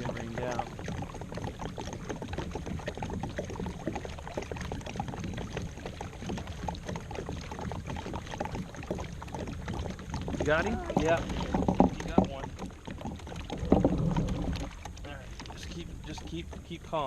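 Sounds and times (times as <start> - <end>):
water lapping against kayak hull: 0.0 - 17.0.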